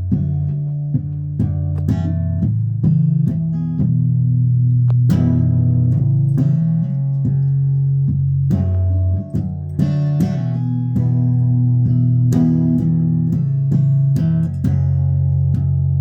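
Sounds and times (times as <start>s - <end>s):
guitar plucked low notes: 0.0s - 16.0s.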